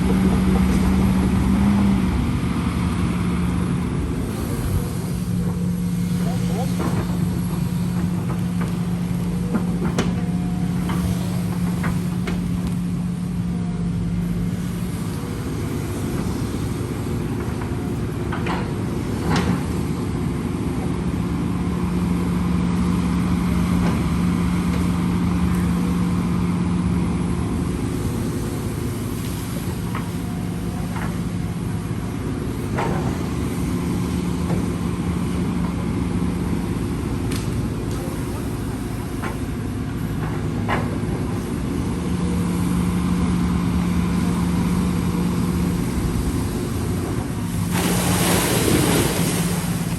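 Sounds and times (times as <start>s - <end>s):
heavy machinery engine drone: 0.0s - 49.9s.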